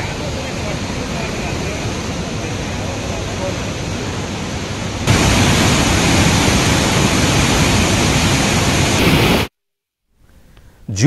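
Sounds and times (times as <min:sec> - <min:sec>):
floodwater rushing through gates: 0:00.0 - 0:09.1.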